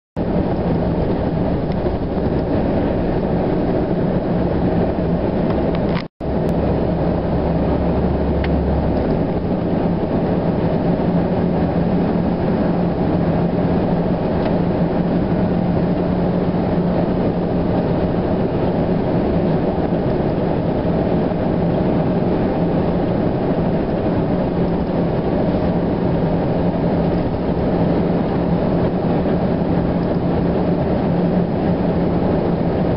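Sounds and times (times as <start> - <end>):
vehicle engine and road noise: 0.2 - 32.9.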